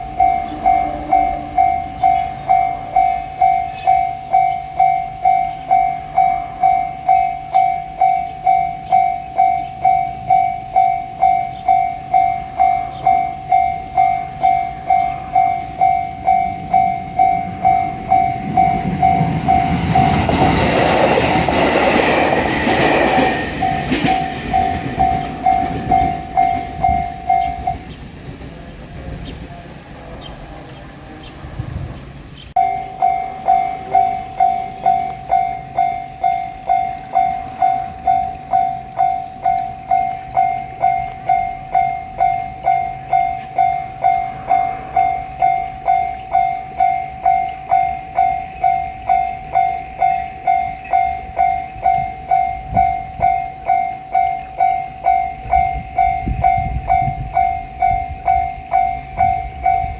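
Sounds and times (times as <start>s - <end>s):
level crossing bell clanging: 0.0s - 28.0s, 32.6s - 59.9s
train wheels rushing: 11.5s - 59.9s.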